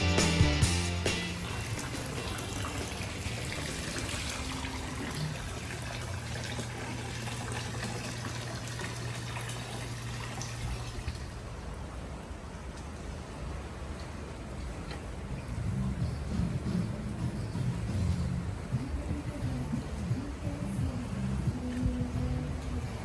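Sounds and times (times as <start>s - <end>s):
low steady hum: 0.0s - 23.0s
water running and splashing: 0.2s - 23.0s.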